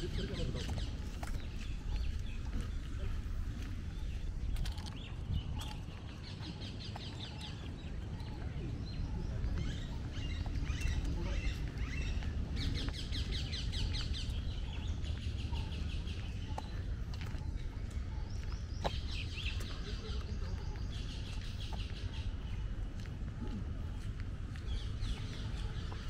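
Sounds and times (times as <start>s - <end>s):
birds chirping: 0.0s - 26.0s
steady low rumble: 0.0s - 26.0s.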